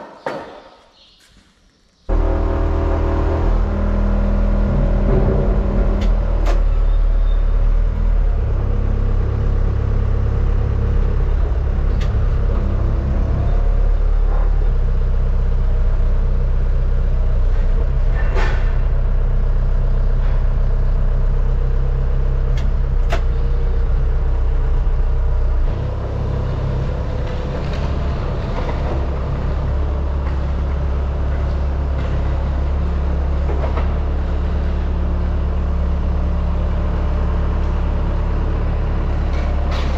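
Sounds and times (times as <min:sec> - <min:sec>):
diesel engine running: 0:02.1 - 0:39.9.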